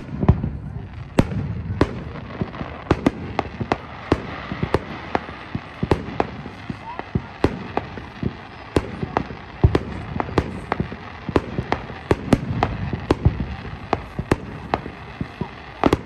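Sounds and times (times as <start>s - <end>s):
deep firework boom: 0.0s - 16.0s
fireworks bangs and crackling: 0.0s - 16.0s.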